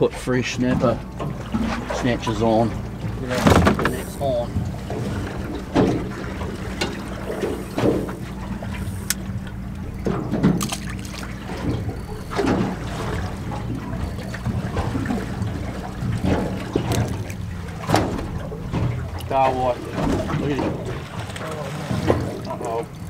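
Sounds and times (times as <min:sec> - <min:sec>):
low engine hum: 0:00.0 - 0:23.0
water lapping against boat hull: 0:00.0 - 0:23.0.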